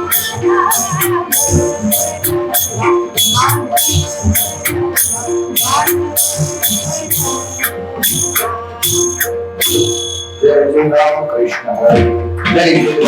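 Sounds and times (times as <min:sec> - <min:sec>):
drum beats: 0:00.0 - 0:10.6
hand cymbals ringing: 0:00.0 - 0:10.6
held tones with gliding melody: 0:00.0 - 0:11.3.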